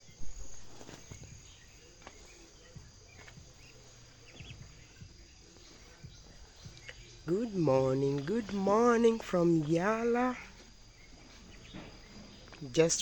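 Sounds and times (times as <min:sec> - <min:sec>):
high insect buzz: 0:00.0 - 0:13.0.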